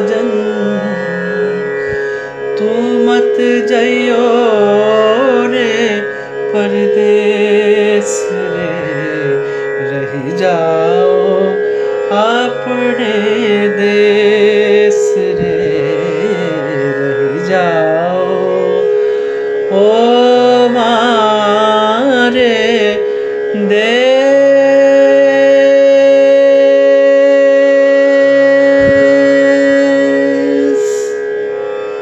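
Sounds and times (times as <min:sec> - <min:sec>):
person singing ornamented phrases: 0:00.0 - 0:31.3
tanpura drone: 0:00.0 - 0:32.0.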